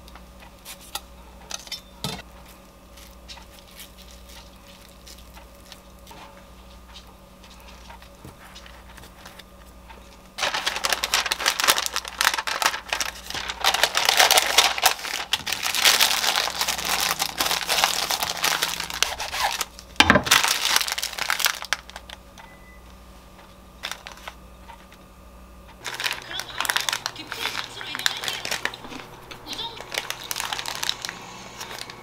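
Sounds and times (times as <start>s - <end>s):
paper crinkling: 2.5s - 22.2s, 23.8s - 24.9s, 25.8s - 32.0s.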